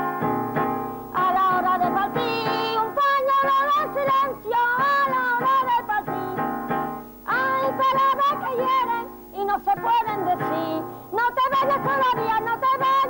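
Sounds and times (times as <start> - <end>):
guitar chords: 0.0 - 13.0
woman singing: 1.1 - 13.0.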